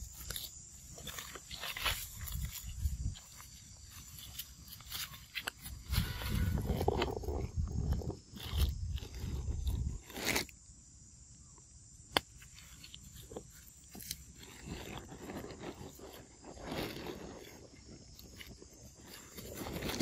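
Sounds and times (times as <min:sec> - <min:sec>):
rustling of leaf litter: 0:00.0 - 0:10.5, 0:12.5 - 0:20.0.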